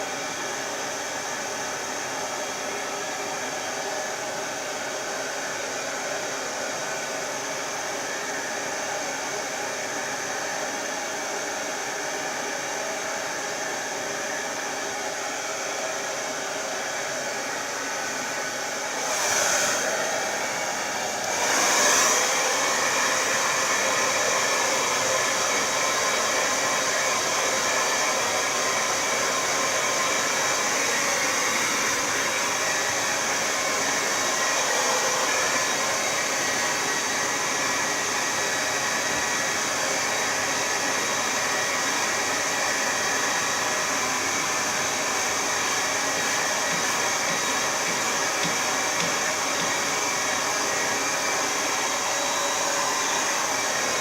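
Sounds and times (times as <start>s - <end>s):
hairdryer running: 0.0s - 54.0s.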